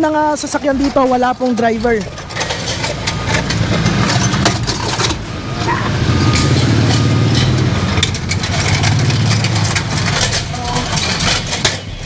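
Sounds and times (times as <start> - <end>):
vehicle engine idling: 1.7 - 12.0.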